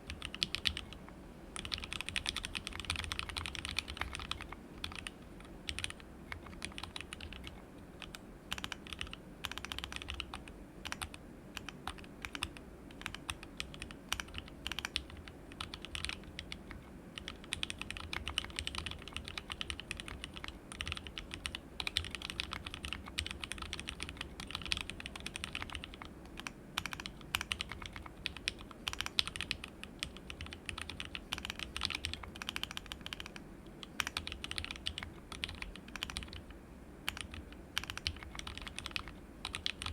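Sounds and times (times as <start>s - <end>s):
mechanical keyboard typing: 0.0s - 1.0s, 1.6s - 36.5s, 37.1s - 39.9s.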